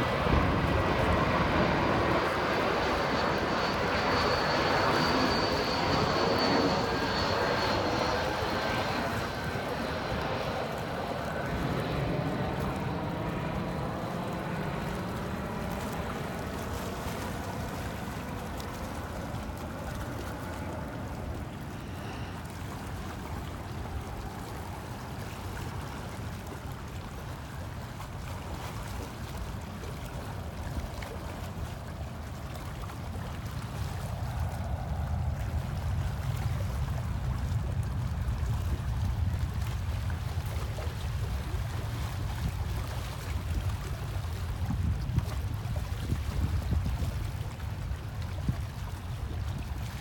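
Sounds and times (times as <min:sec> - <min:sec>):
jet airliner engines droning: 0:00.0 - 0:28.2, 0:29.0 - 0:49.9
wind: 0:00.0 - 0:50.0.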